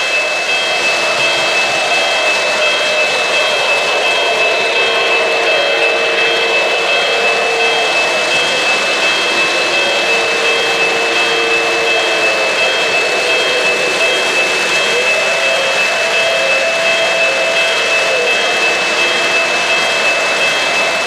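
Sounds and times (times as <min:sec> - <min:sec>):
model train wheels rolling: 0:00.0 - 0:21.0
thin high whine: 0:00.0 - 0:21.0.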